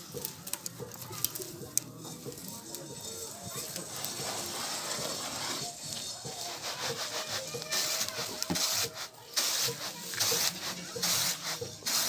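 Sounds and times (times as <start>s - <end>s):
rice flakes rustling on bamboo tray: 0.0s - 12.0s.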